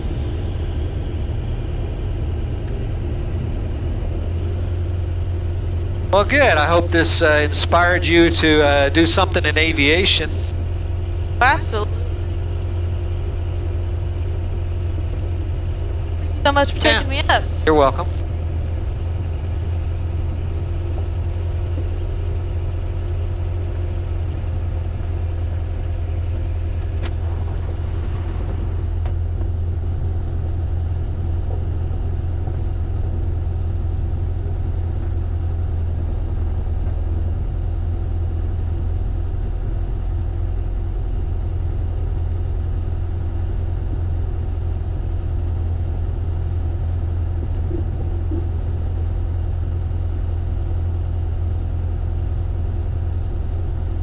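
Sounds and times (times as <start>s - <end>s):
faint high ticking: 0.0s - 28.5s, 29.1s - 30.4s, 31.0s - 35.2s, 35.8s - 43.8s, 44.4s - 48.6s, 49.2s - 53.4s
light aircraft engine droning: 0.0s - 54.0s.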